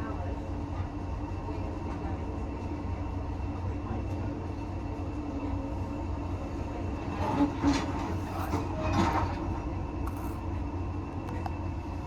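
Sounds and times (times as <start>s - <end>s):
railway carriage rumble: 0.0s - 12.0s.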